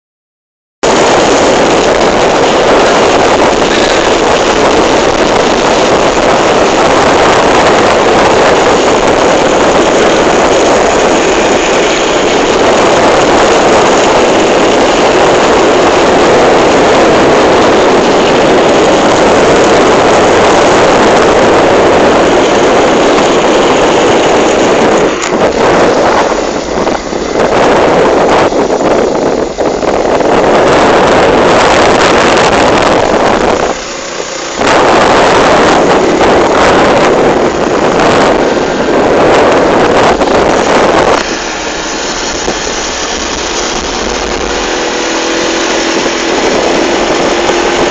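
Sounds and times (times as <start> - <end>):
wind and road noise: 0.8 - 47.9.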